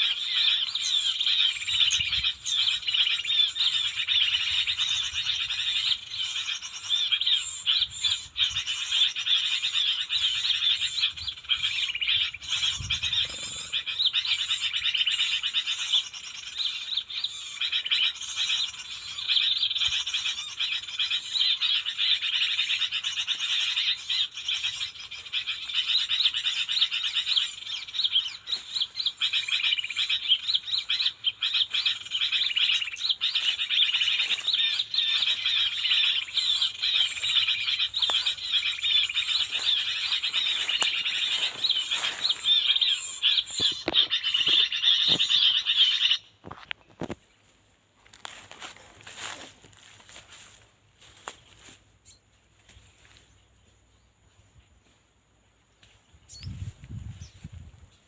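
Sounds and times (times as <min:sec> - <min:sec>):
small animals chirping and trilling: 0:00.0 - 0:53.4.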